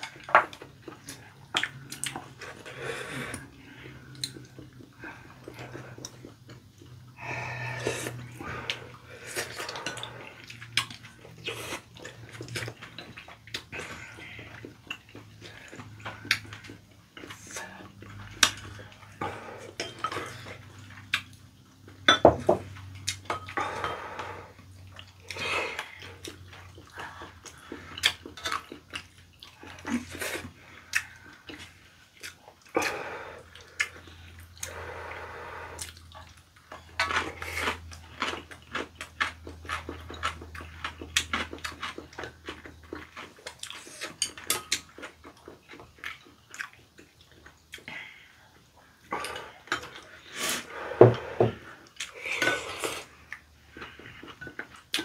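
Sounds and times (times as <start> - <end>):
slurping and chewing: 0.0 - 55.0.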